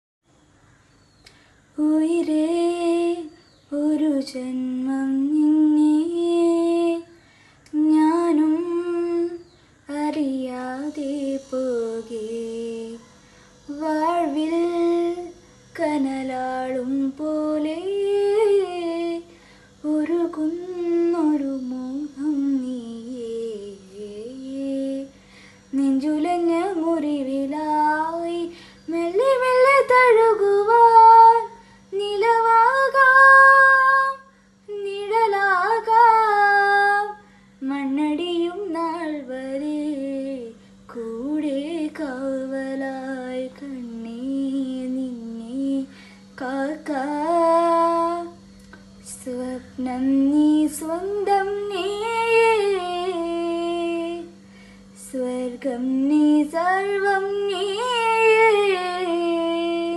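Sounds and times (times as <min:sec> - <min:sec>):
woman singing: 0:01.8 - 0:59.9.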